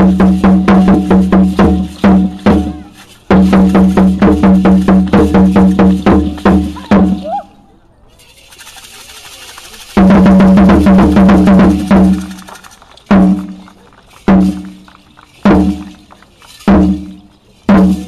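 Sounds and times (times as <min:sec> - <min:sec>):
large drum beats: 0:00.0 - 0:07.3, 0:10.0 - 0:18.0.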